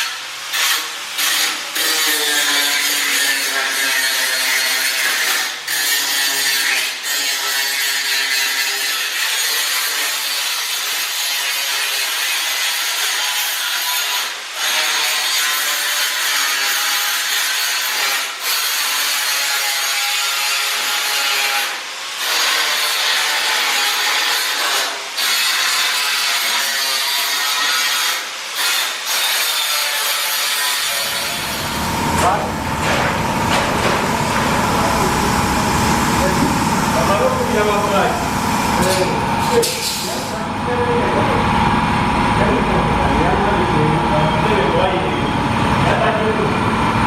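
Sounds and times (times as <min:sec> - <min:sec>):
plasma cutter hissing: 0:00.0 - 0:40.7.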